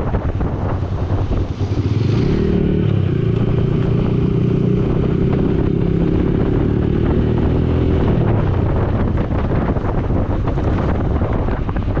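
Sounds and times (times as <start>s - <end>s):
motorcycle engine running loud: 0.0s - 12.0s
wind on microphone: 0.0s - 12.0s.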